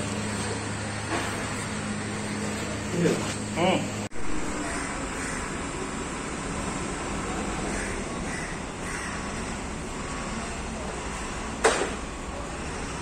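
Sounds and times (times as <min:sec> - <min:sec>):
outdoor yard noise: 0:00.0 - 0:13.0.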